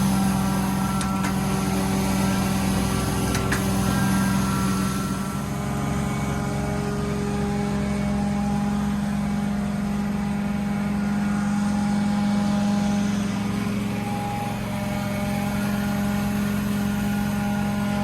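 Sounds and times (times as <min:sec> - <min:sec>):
carpet cleaning machine humming: 0:00.0 - 0:18.0.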